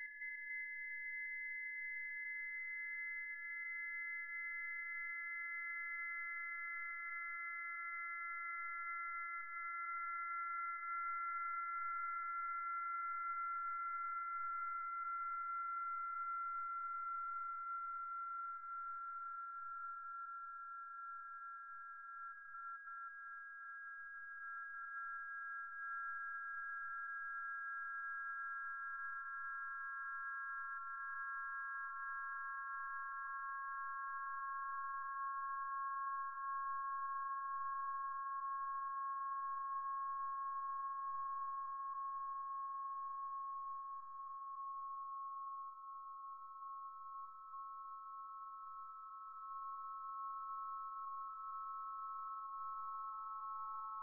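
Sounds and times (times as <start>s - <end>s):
electronic sine tone drone: 0.0s - 54.0s.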